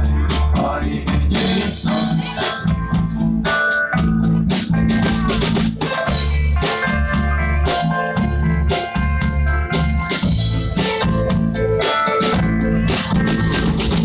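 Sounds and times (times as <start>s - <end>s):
drum kit beat: 0.0s - 14.0s
guitar: 0.0s - 14.0s
loud bass: 0.0s - 14.0s.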